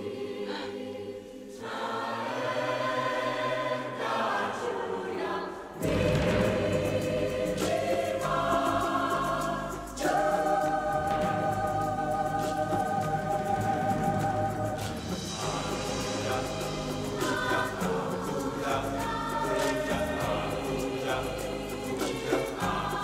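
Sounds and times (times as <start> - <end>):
choir singing sustained chords: 0.0 - 23.0.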